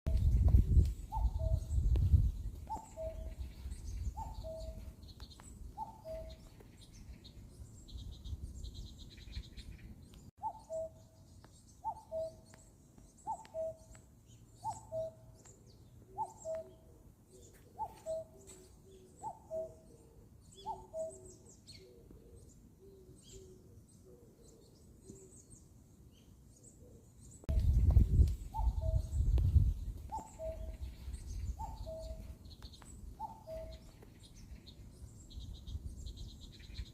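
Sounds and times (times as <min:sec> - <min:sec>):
cuckoo calling: 0:00.1 - 0:06.7, 0:09.2 - 0:11.2, 0:11.8 - 0:25.6, 0:26.8 - 0:34.7
small birds chirping faintly: 0:00.1 - 0:36.9.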